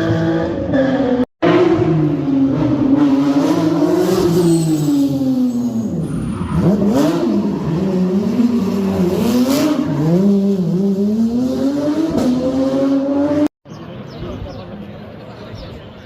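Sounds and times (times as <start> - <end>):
race car engine revving: 0.0 - 13.5.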